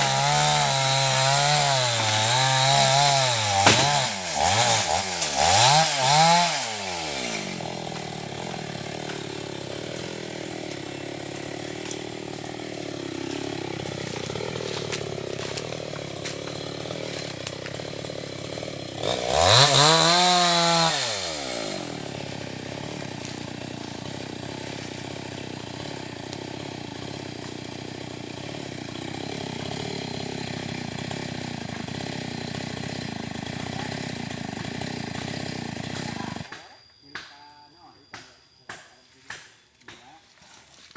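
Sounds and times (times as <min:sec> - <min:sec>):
chainsaw engine revving: 0:00.0 - 0:36.6.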